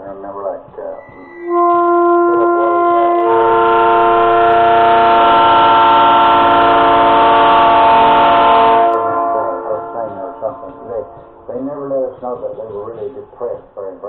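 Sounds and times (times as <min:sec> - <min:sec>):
train horn blast: 0:00.9 - 0:12.6.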